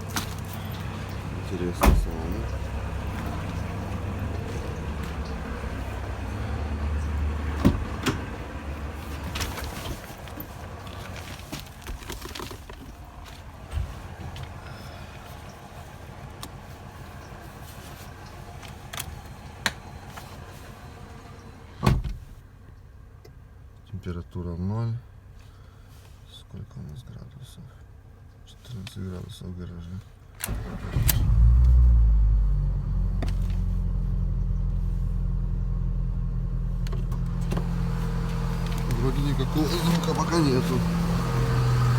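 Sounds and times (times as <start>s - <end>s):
car engine idling: 0.0s - 26.5s, 30.5s - 41.9s.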